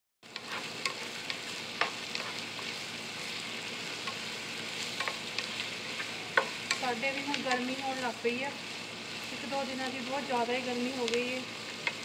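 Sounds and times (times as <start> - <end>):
onions sizzling in frying pan: 0.2 - 12.0.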